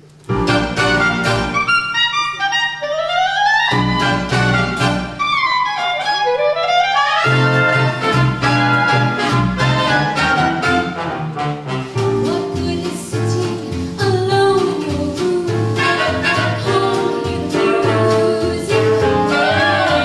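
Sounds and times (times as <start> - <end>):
orchestral music: 0.3 - 20.0.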